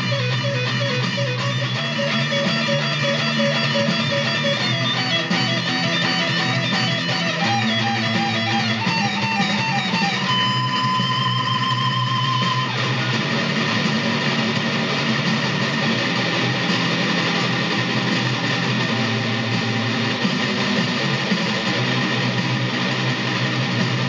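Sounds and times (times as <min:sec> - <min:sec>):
electric guitar lead line: 0:00.0 - 0:24.0
electric guitar rhythm part: 0:00.0 - 0:24.0.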